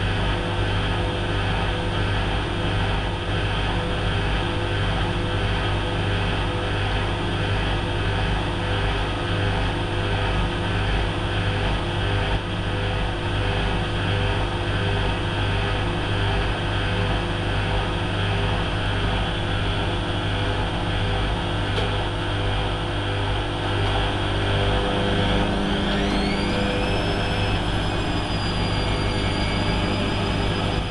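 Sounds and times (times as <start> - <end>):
washing machine running: 0.0 - 30.9.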